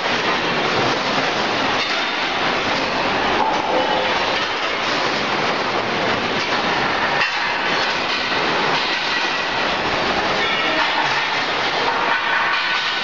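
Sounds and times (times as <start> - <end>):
dismantling line machinery running: 0.0 - 13.0.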